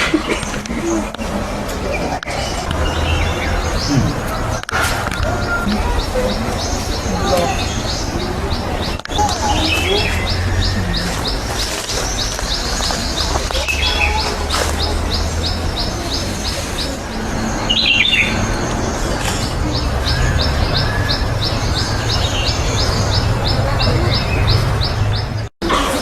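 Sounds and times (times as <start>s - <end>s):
outdoor noise: 0.0s - 26.0s
bird high chirp: 1.9s - 25.5s.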